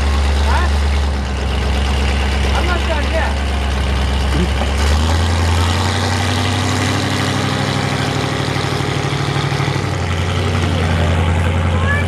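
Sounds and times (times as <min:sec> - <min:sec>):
truck engine idling loudly: 0:00.0 - 0:12.0.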